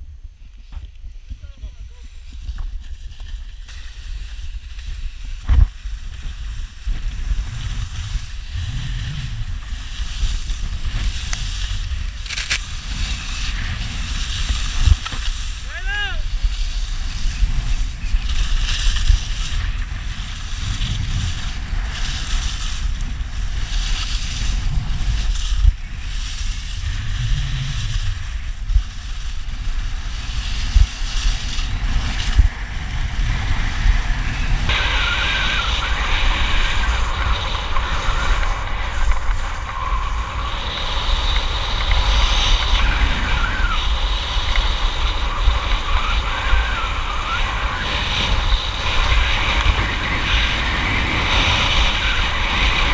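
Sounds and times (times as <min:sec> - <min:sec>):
wind buffeting microphone: 0:00.0 - 0:52.9
skis scraping over snow: 0:00.6 - 0:52.9.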